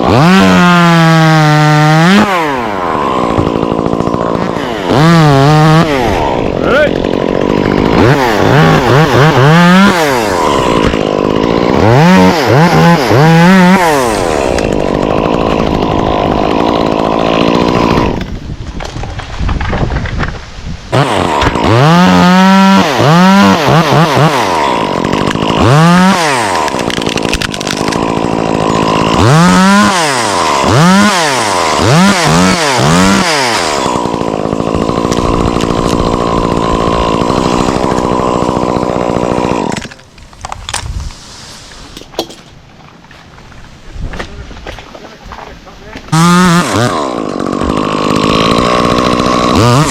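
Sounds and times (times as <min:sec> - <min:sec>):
chainsaw revving: 0:00.0 - 0:19.2, 0:20.9 - 0:42.3, 0:45.0 - 0:49.9.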